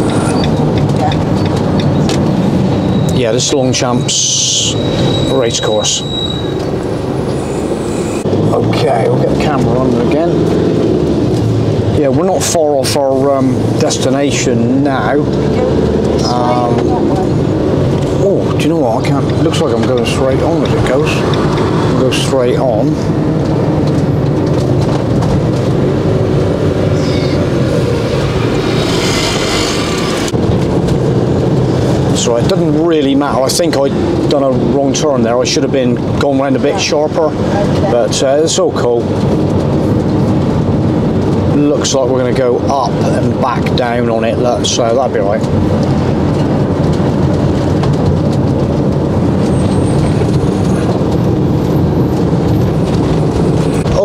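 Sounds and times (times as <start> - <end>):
engine drone: 0.0 - 54.0
road and tyre noise: 0.0 - 54.0.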